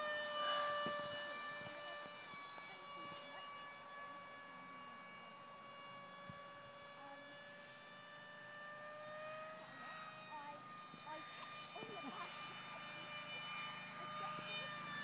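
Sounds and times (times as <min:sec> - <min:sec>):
electric ducted fan whine: 0:00.0 - 0:15.0.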